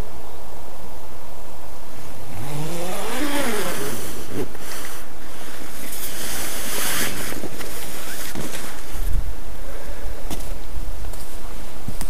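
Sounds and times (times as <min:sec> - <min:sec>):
steady rushing noise: 0:01.7 - 0:12.0.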